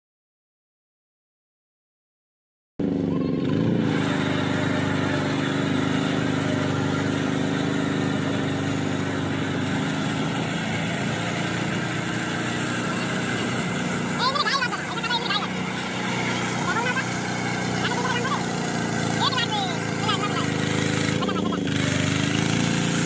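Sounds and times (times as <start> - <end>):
diesel tiller engine running: 2.8 - 23.0.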